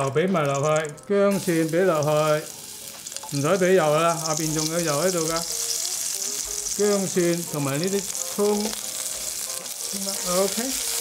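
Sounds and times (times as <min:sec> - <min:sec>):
aromatics sizzling in hot oil: 0:00.0 - 0:11.0.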